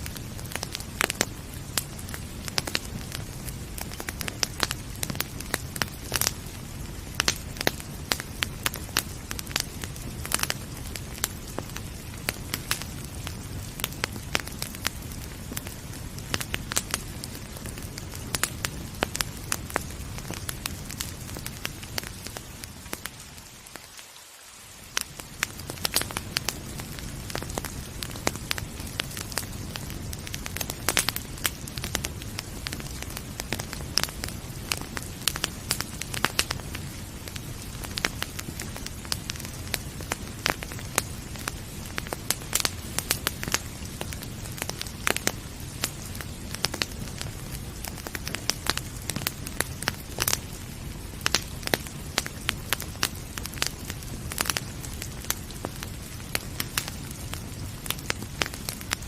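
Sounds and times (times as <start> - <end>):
soft rain: 0.0 - 59.0
wood fire crackling and popping: 0.0 - 59.0.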